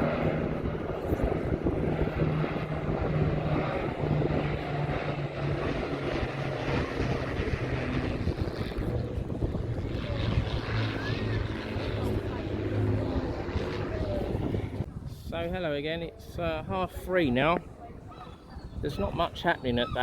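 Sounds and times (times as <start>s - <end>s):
propeller aircraft engine droning: 0.0s - 20.0s
wind on microphone: 0.0s - 20.0s.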